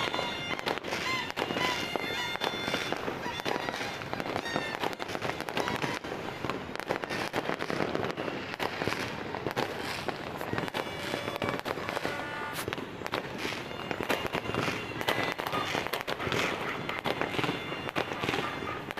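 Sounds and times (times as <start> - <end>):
firework whistles: 0.0 - 18.9
fireworks bangs and crackles: 0.0 - 18.9.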